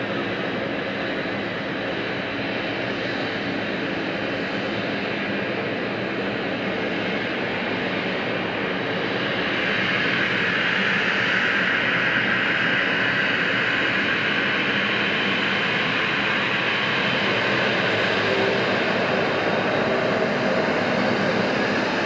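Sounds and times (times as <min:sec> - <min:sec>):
jet engine whine and hiss: 0:00.0 - 0:22.0.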